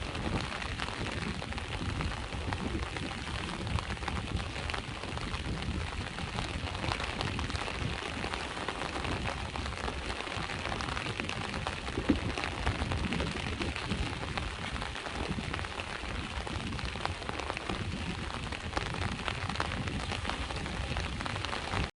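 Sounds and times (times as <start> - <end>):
rain on a hard surface: 0.0 - 21.9.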